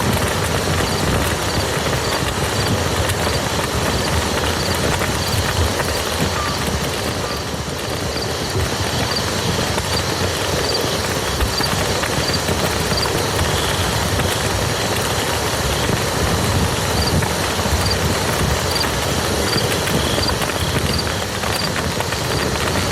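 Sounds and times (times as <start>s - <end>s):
rain pattering on a field: 0.0s - 22.9s.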